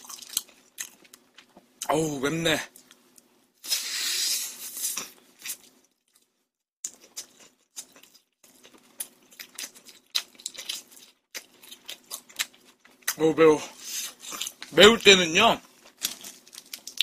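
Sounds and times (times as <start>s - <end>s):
crunchy chewing: 0.0s - 1.6s, 3.6s - 13.2s, 13.8s - 17.0s.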